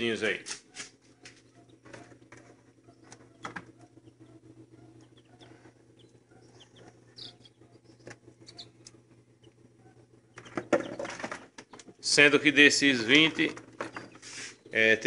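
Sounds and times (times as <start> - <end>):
steady low hum: 0.0 - 15.0
chicks peeping: 0.6 - 14.8.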